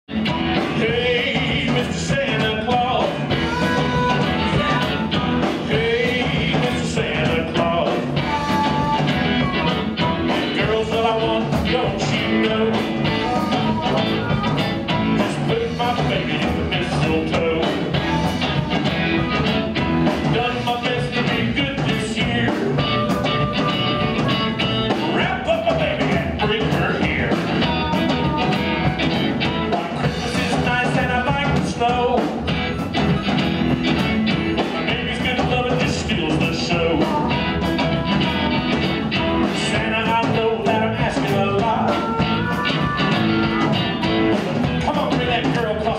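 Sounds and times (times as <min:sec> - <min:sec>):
blues band playing: 0:00.1 - 0:45.9
electric guitar: 0:00.1 - 0:45.9
harmonica: 0:02.7 - 0:44.5.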